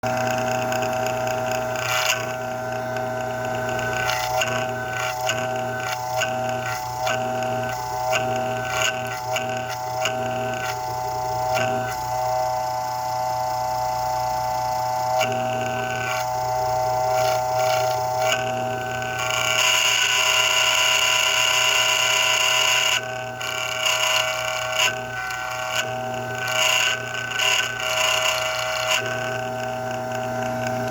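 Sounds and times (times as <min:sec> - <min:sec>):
fan motor humming and whining: 0:00.0 - 0:30.9.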